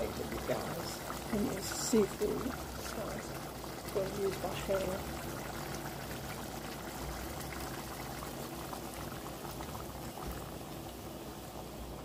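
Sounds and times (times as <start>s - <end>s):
sauce bubbling in a pot: 0.0s - 12.0s.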